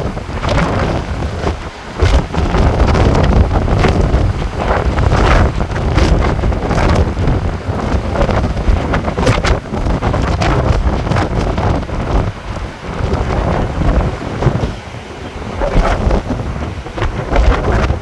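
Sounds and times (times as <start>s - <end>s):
surf: 0.0s - 18.0s
wind buffeting microphone: 0.0s - 18.0s.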